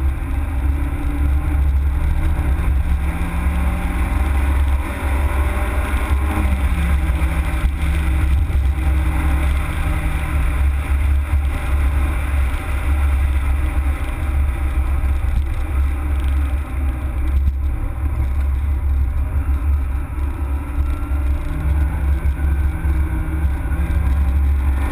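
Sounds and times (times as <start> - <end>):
car engine running: 0.0 - 24.9
heavy low rumble: 0.0 - 24.9.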